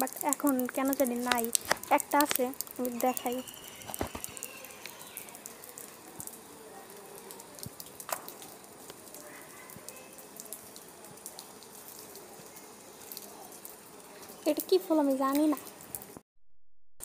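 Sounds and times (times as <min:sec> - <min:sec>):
faint outdoor hiss: 0:00.0 - 0:16.2
rainwater dripping: 0:00.0 - 0:16.2.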